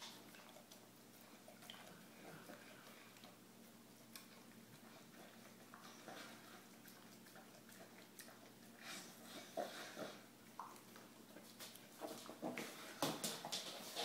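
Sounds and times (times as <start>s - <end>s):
dog eating from steel bowl: 0.0s - 12.9s.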